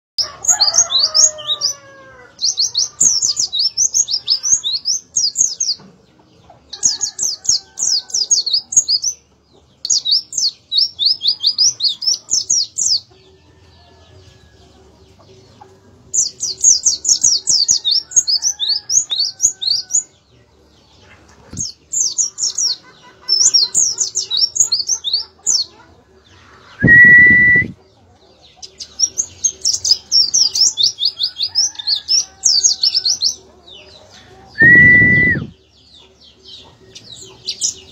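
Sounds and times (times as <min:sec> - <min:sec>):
small bird singing: 0:00.2 - 0:37.9.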